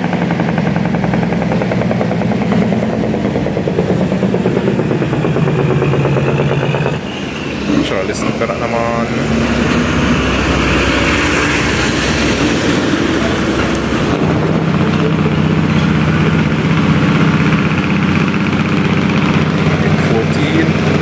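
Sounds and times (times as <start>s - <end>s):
truck engine brake pulsing: 0.0s - 19.6s.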